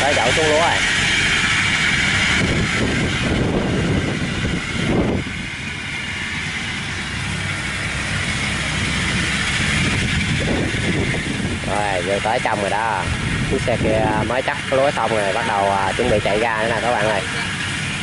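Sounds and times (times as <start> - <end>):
cart engine running: 0.0 - 18.0.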